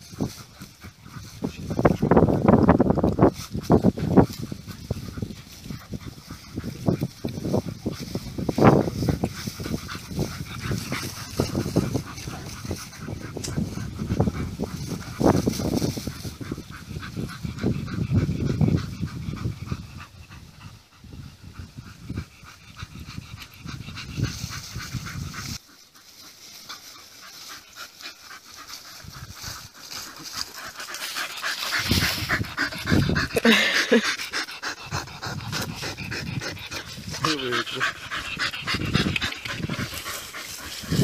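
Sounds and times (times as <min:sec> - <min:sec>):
dogs panting: 0:00.0 - 0:41.0.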